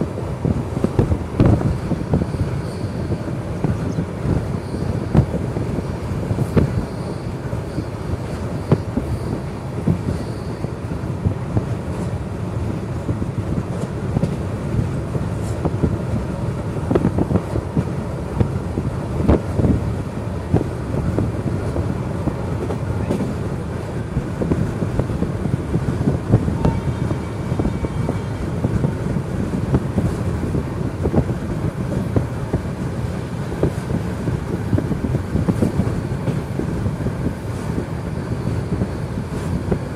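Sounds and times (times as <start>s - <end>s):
clacks over the track: 0.0s - 39.9s
train wheels rumbling on rails: 0.0s - 39.9s.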